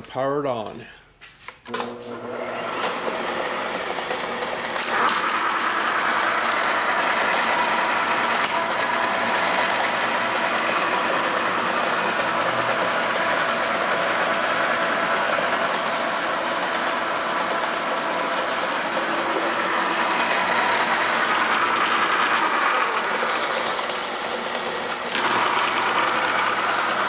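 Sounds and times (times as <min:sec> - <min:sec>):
milling machine whirring: 0:01.8 - 0:27.0.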